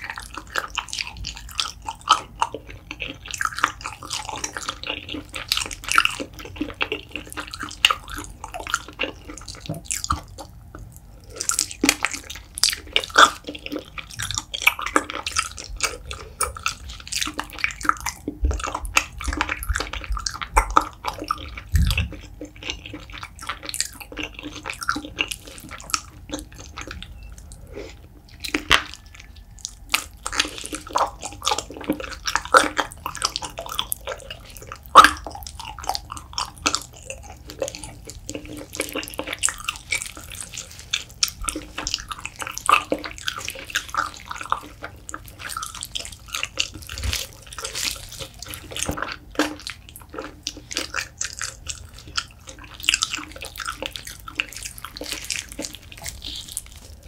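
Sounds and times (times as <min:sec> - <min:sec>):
wet sticky chewing: 0:00.0 - 0:57.0.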